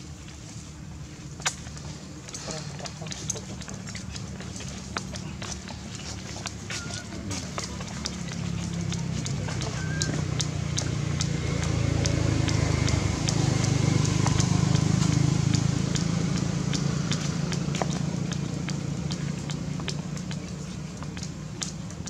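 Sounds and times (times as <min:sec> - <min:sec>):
light ticks: 0:01.4 - 0:22.0
passing vehicle engine hum: 0:01.6 - 0:22.0.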